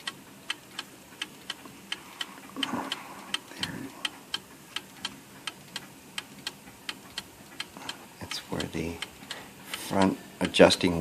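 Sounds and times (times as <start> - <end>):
mantel clock ticking: 0.0 - 11.0.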